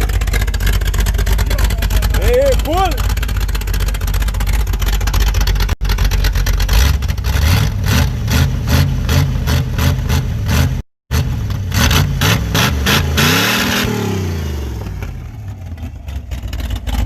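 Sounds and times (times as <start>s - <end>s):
loud lopey engine idling: 0.0s - 17.0s.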